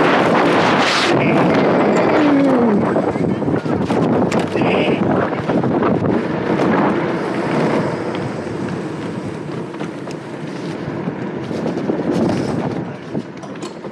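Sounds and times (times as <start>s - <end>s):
small tyres rolling on asphalt: 0.0s - 13.9s
wind rushing over microphone: 0.0s - 13.9s.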